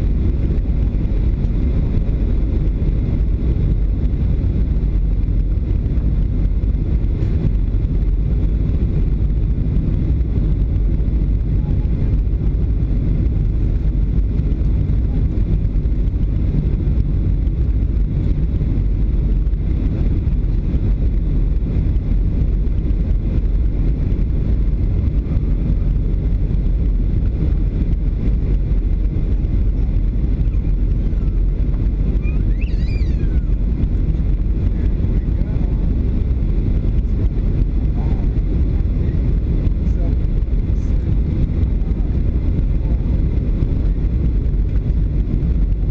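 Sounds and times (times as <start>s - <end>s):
airliner engine noise inside cabin: 0.0s - 45.9s.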